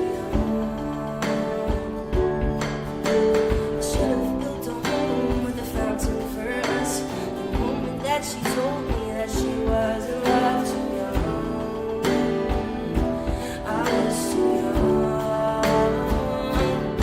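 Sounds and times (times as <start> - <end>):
man singing: 0.0 - 17.0
pop band backing: 0.0 - 17.0.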